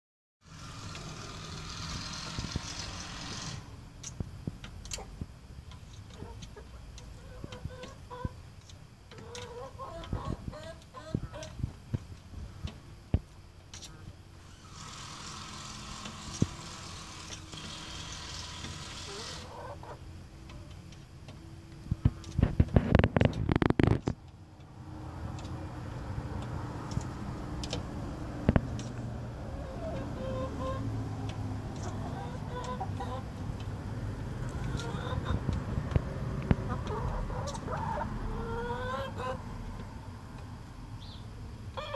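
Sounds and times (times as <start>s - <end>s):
low background noise: 0.5s - 41.9s
hens clucking: 4.6s - 13.0s, 13.7s - 40.6s.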